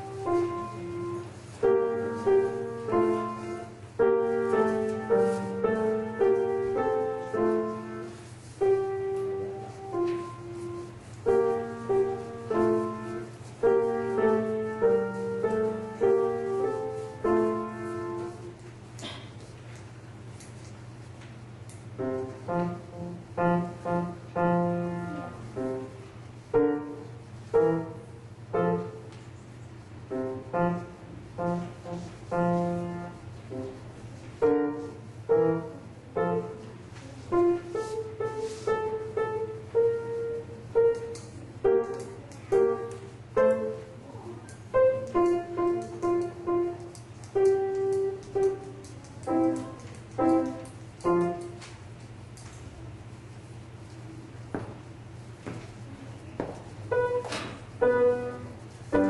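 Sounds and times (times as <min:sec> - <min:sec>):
slow solo piano: 0:00.0 - 0:19.3, 0:22.0 - 0:29.1, 0:30.0 - 0:51.6, 0:56.8 - 0:59.0
low electrical hum: 0:00.0 - 0:59.0.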